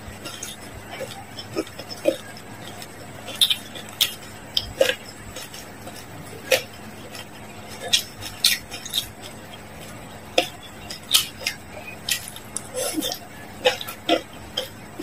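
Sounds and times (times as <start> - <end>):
chewing with wet mouth clicks: 0.1 - 15.0.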